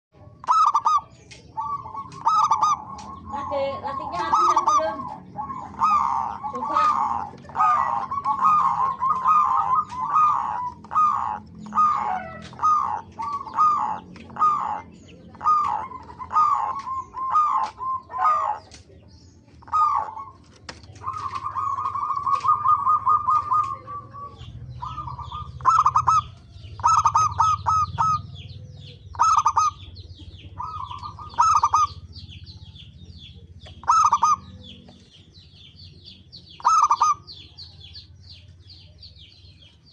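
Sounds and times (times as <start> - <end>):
doves cooing: 0.2 - 39.9.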